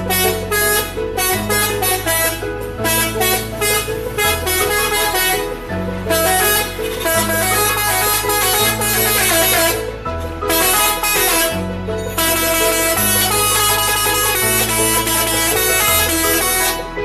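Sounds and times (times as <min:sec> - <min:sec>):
multi-tone horn melody: 0:00.0 - 0:17.0.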